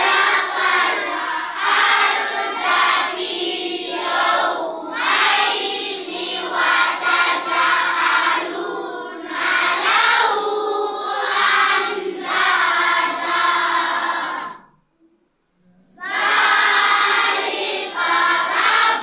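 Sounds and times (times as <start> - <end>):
children chanting in unison: 0.0 - 14.8, 15.8 - 19.0.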